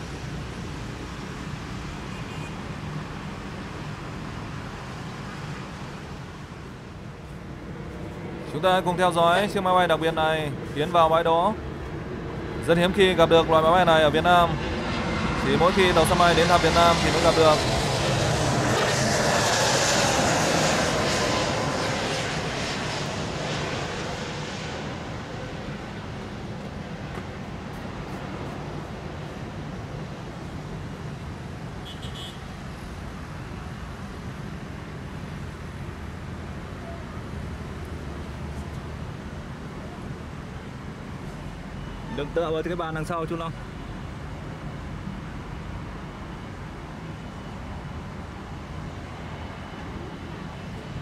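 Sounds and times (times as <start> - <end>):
turboprop engines droning: 0.0 - 51.0.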